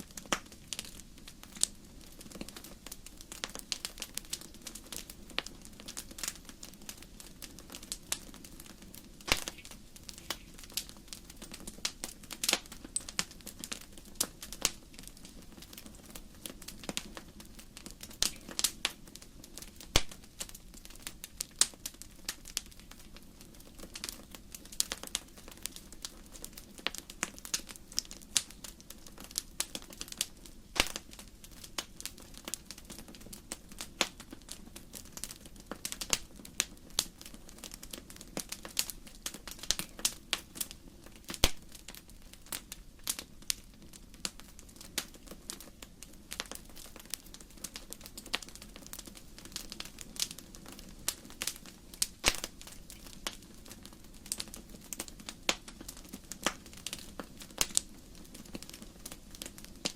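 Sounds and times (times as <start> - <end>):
burning logs crackling and popping: 0.0 - 59.9.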